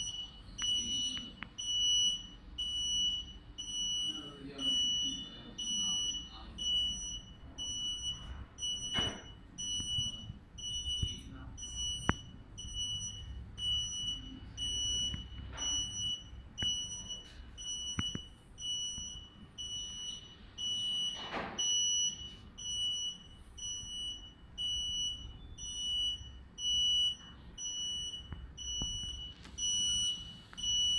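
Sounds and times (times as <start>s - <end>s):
electronic alarm beeping: 0.0s - 30.9s.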